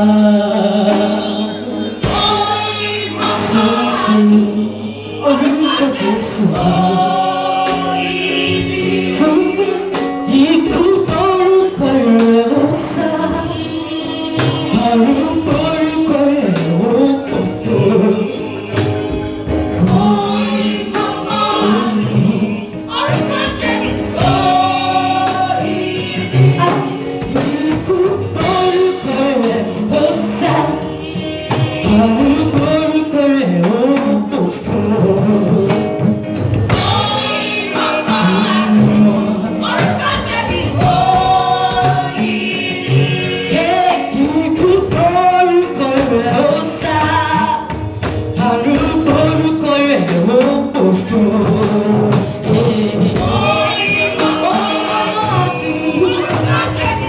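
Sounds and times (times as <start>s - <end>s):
drums keeping the beat: 0.0s - 57.0s
women's choir singing gospel: 0.0s - 57.0s.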